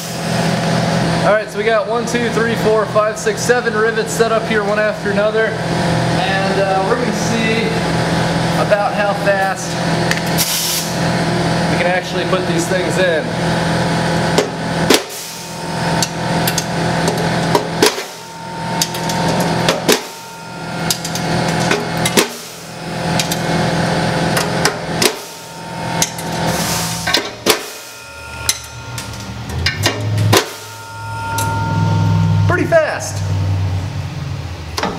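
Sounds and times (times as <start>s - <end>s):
steady low hum: 0.0s - 34.8s.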